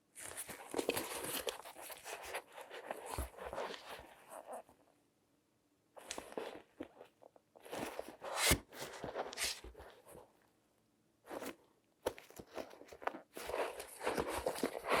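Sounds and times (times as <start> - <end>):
gloved hands rustling and crinkling: 0.0 - 4.8, 6.0 - 10.3, 11.3 - 15.0.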